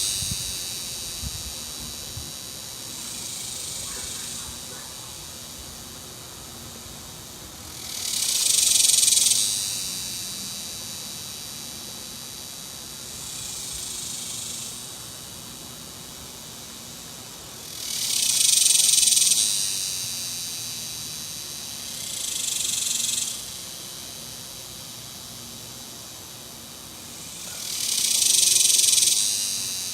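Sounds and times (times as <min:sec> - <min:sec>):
cicada buzzing: 0:00.0 - 0:29.9
faint steady buzz: 0:00.0 - 0:29.9.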